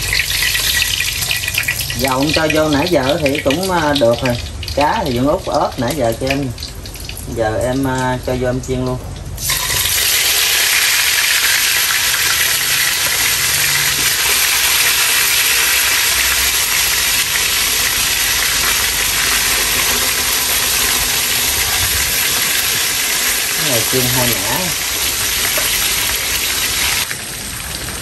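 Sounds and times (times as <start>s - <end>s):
fish frying in hot oil: 0.0s - 8.4s, 9.2s - 28.0s.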